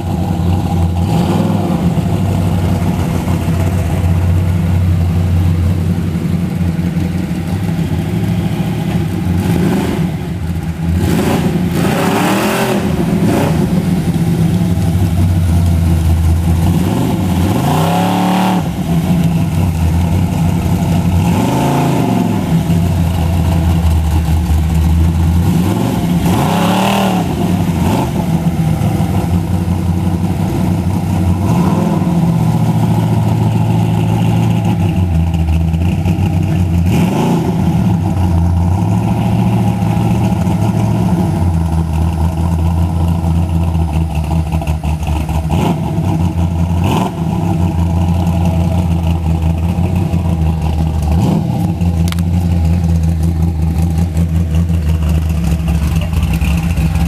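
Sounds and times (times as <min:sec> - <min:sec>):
engine idling and revving: 0:00.0 - 0:57.0.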